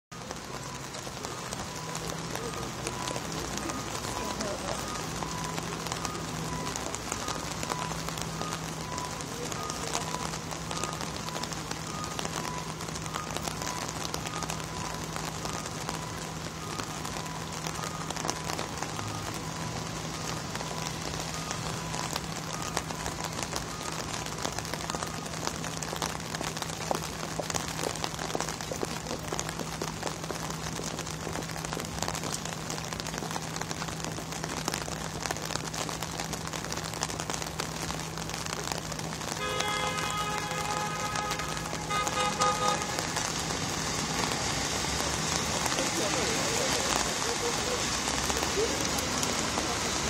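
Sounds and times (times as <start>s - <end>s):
rain falling on wet pavement: 0.1s - 50.0s.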